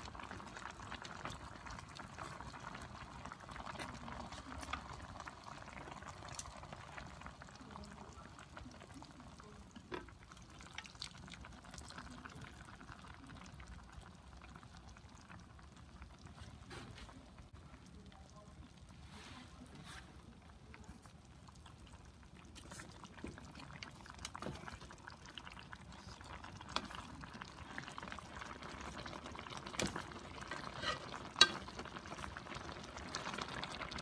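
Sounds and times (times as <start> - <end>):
broth simmering with pops: 0.0 - 34.0.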